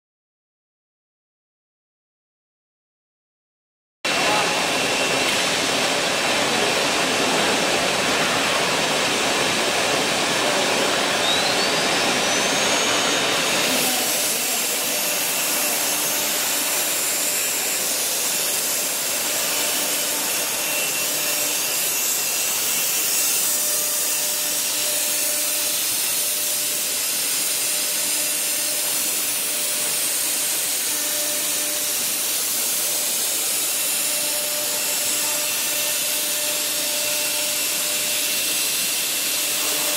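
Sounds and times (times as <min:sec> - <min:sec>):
router bit cutting wood: 0:04.1 - 0:39.9
spindle whine: 0:04.1 - 0:39.9.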